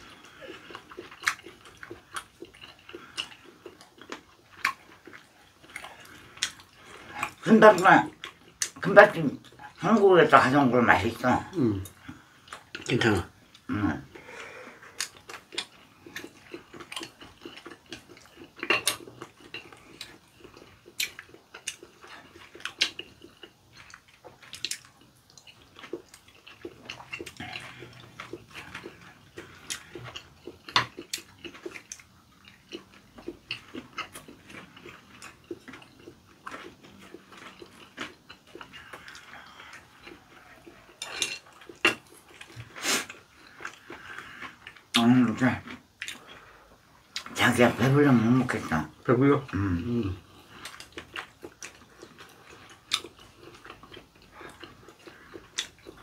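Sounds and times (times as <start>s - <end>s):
chewing and biting: 0.0s - 13.7s, 14.8s - 56.0s.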